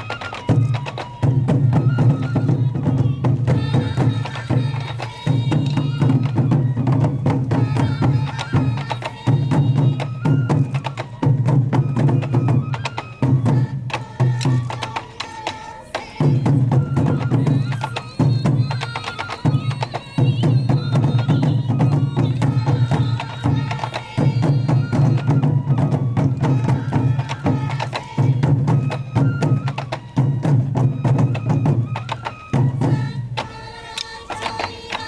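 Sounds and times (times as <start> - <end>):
taiko drumming: 0.0 - 33.6
flute-like melody: 0.0 - 35.0.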